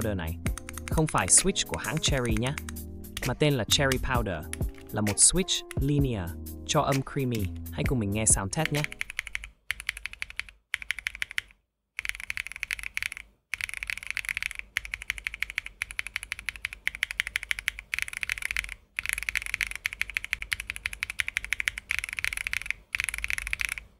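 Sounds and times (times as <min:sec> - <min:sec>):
mechanical keyboard typing: 0:00.5 - 0:06.0, 0:07.2 - 0:07.7, 0:08.6 - 0:23.9.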